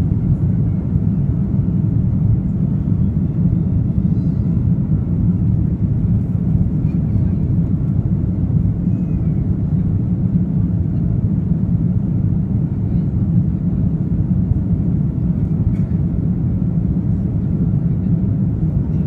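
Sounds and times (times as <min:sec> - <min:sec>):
airplane engine rumble in cabin: 0:00.0 - 0:19.0.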